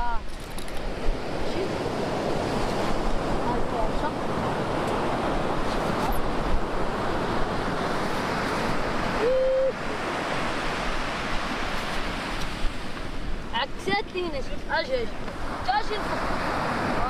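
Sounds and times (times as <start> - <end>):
ocean surf washing on beach: 0.0 - 17.0
wind buffeting microphone: 0.0 - 17.0.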